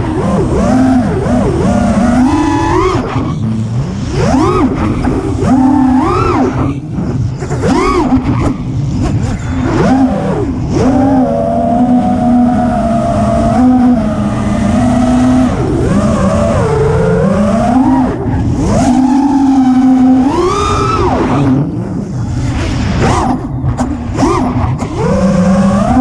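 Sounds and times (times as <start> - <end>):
quadcopter motor whine: 0.0 - 26.0.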